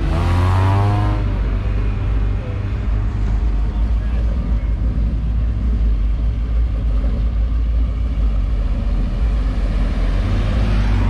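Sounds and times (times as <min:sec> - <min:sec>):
car engines running at low speed: 0:00.0 - 0:11.0.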